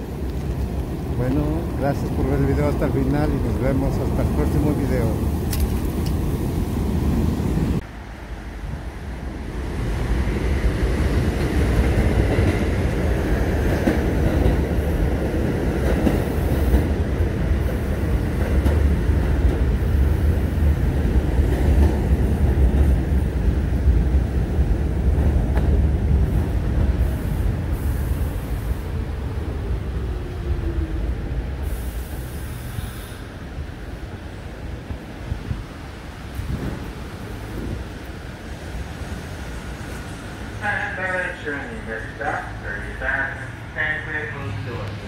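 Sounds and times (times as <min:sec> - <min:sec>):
falling whine of slowing train: 0:00.0 - 0:45.0
train rumbling over rails: 0:00.0 - 0:45.0.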